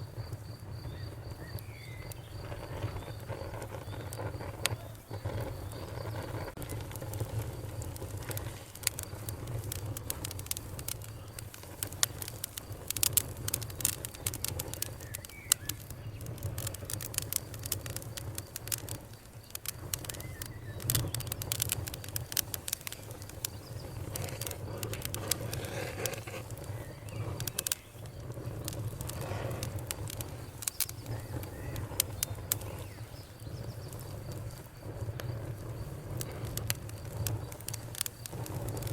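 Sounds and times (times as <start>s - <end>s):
fire crackles and pops: 0.0s - 38.9s
flames rumbling: 0.0s - 38.9s.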